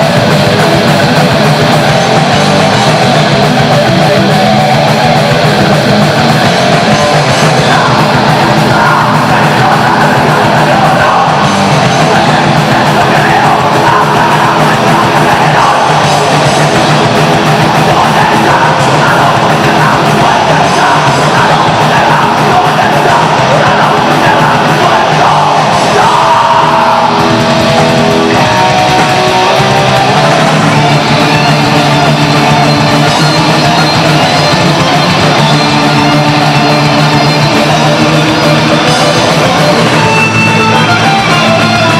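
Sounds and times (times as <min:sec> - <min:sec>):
heavy metal band playing: 0:00.0 - 0:41.9.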